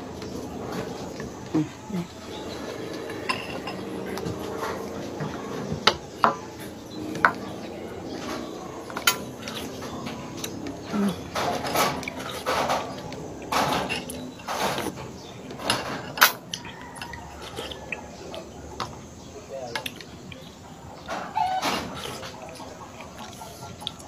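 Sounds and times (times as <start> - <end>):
eating sounds: 0.0 - 24.0.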